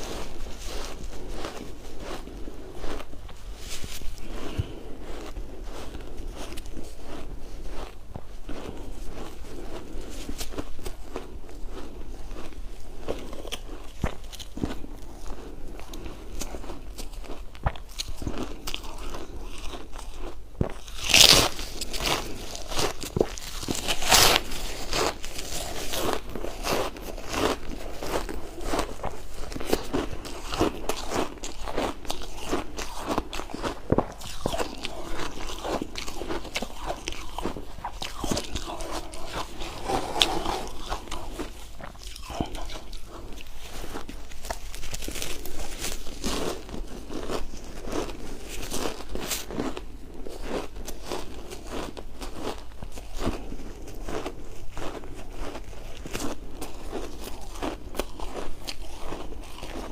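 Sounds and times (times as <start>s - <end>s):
ice crunching being chewed: 0.0s - 59.9s.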